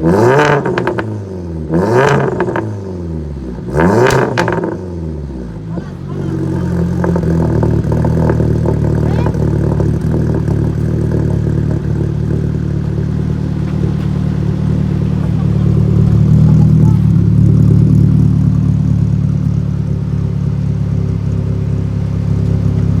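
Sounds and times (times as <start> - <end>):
car engine idling: 3.1 - 23.0.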